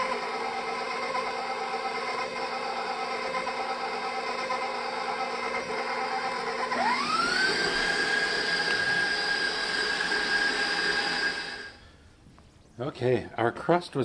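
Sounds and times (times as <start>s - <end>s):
stand mixer motor whine: 0.0s - 11.8s.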